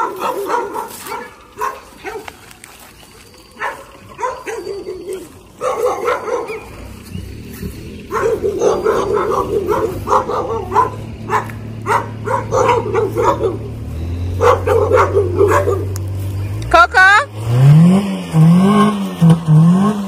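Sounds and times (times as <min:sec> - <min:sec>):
dogs barking: 0:00.0 - 0:16.9.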